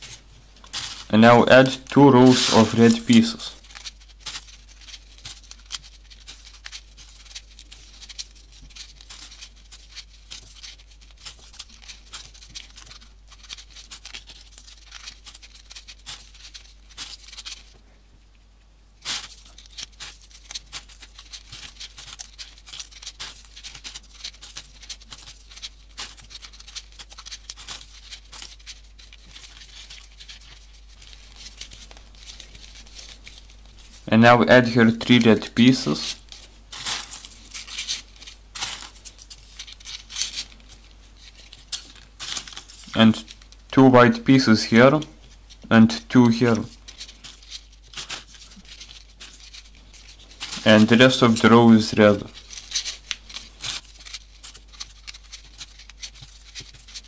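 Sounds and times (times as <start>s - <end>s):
paper pieces rustling and clicking: 0.0s - 17.8s, 19.0s - 34.1s, 34.7s - 57.0s
faint low hum: 0.0s - 57.0s.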